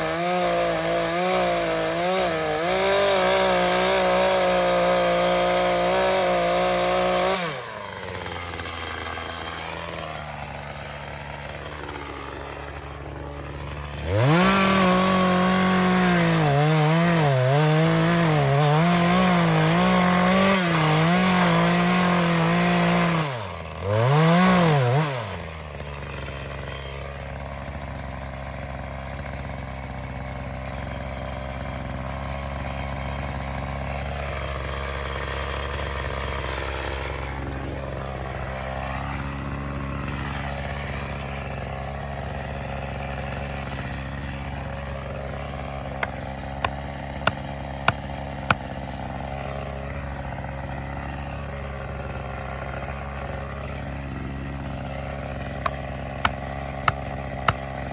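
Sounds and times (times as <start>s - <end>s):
chainsaw revving and idling: 0.0s - 57.9s.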